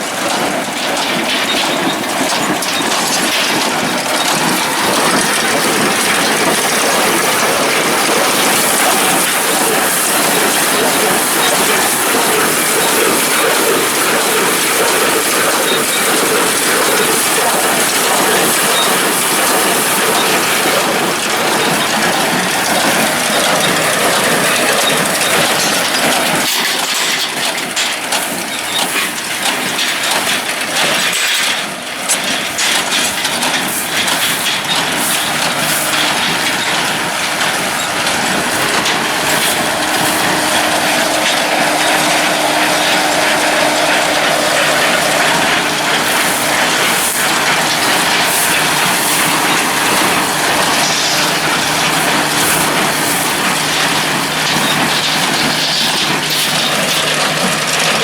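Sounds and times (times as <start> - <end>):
hay baler clattering: 0.0 - 58.0.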